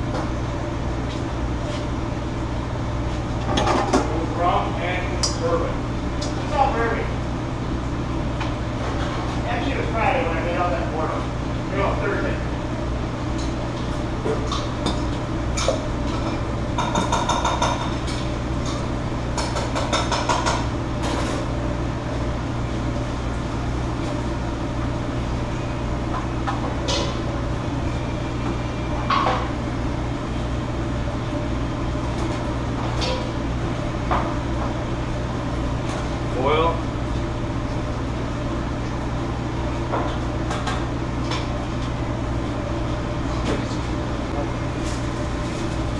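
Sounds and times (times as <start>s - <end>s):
ventilation hum: 0.0s - 45.9s.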